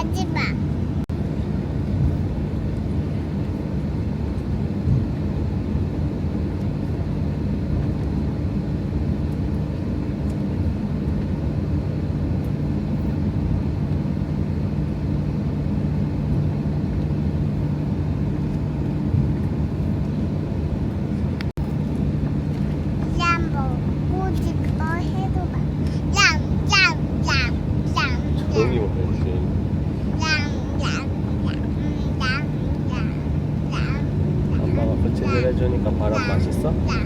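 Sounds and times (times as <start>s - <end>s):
airliner cabin drone: 0.0s - 37.0s.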